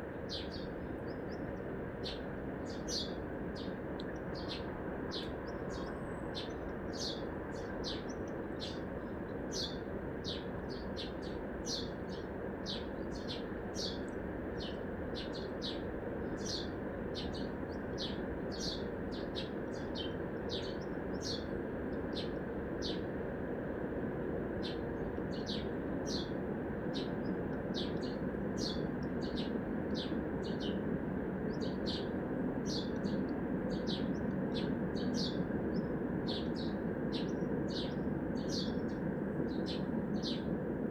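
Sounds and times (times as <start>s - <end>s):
small bird chirping: 0.3s - 23.0s, 27.7s - 30.8s, 31.5s - 33.2s, 33.8s - 40.5s.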